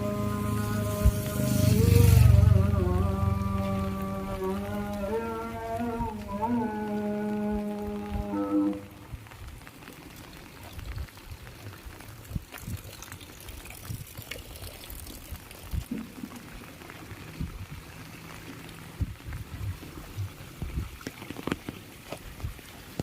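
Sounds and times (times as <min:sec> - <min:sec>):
rain falling: 0:00.0 - 0:23.0
water drips and taps: 0:02.8 - 0:23.0.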